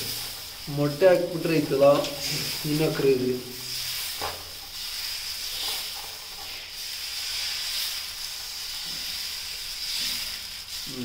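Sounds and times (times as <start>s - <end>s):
batter sizzling on a hot pan: 0.0s - 11.0s.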